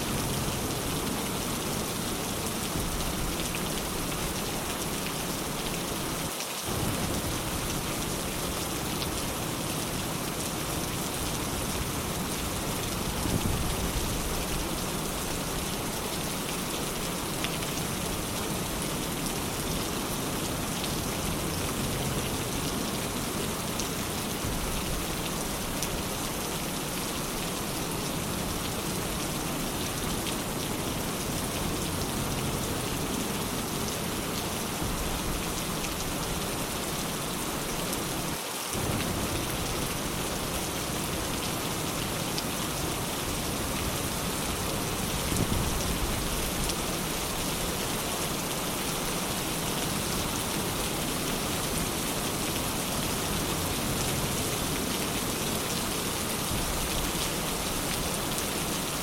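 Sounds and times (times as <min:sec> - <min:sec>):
rain hissing on surfaces: 0:00.0 - 0:59.0.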